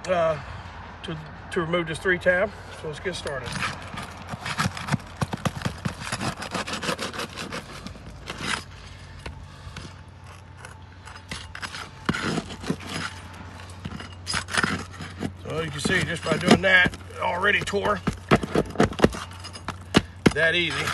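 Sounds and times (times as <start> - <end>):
tool scraping asphalt shingles: 2.6 - 20.9.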